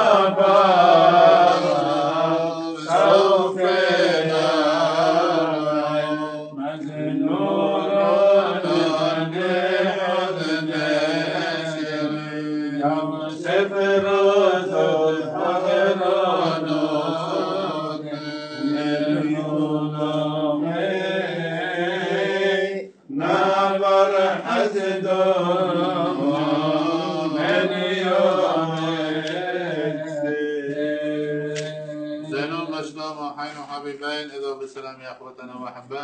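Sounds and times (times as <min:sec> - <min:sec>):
man chanting: 0:00.0 - 0:36.0.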